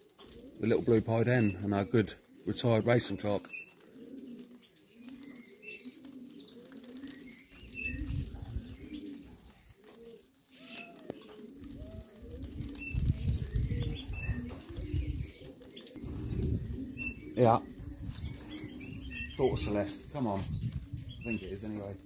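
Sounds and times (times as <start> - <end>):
pigeons cooing: 0.0 - 22.0
wings flapping: 2.1 - 22.0.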